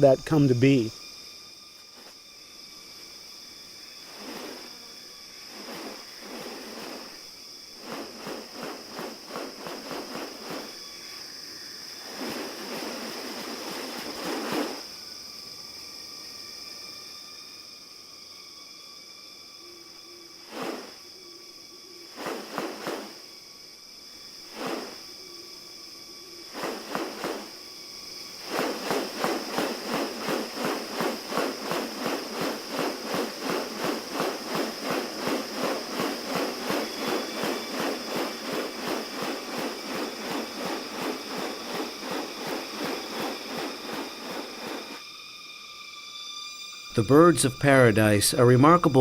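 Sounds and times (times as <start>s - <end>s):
high-pitched insect drone: 0.0s - 49.0s
rhythmic insect pulsing: 0.0s - 49.0s.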